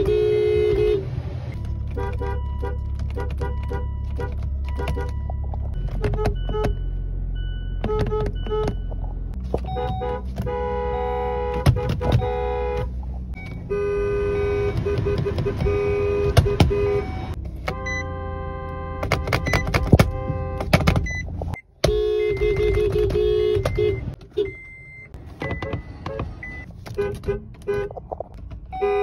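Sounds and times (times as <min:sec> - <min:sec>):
car horns honking: 0:00.0 - 0:29.0.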